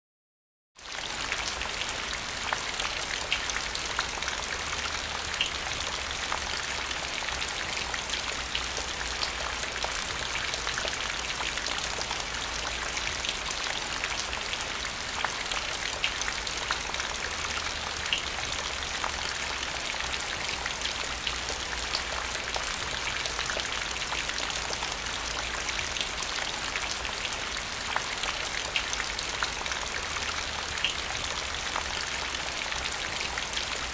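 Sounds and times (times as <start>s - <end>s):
rain on a hard surface: 0.8s - 33.9s.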